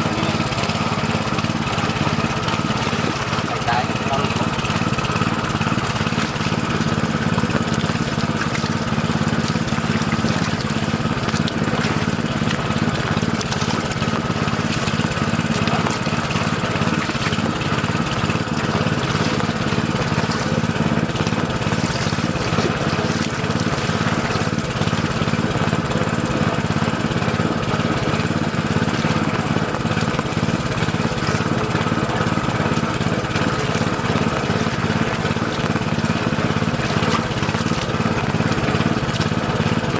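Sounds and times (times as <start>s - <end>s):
small engine driving a water pump: 0.0s - 39.9s.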